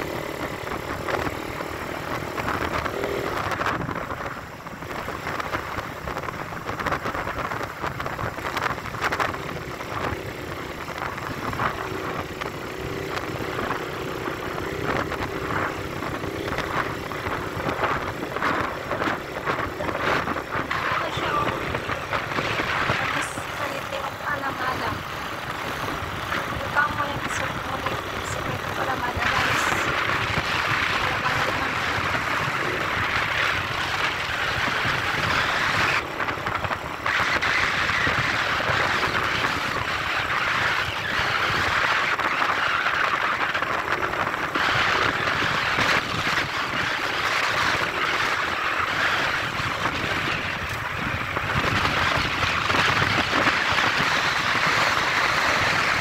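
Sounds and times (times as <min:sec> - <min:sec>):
vehicle road noise: 0:00.0 - 0:56.0.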